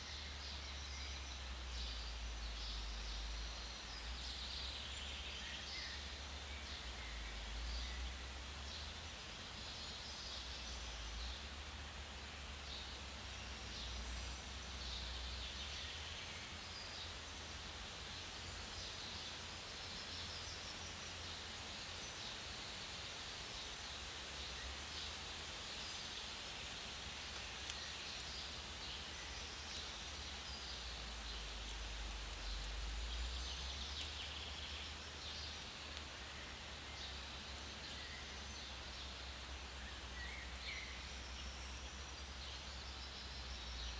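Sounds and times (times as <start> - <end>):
rustling hiss: 0.0 - 43.9.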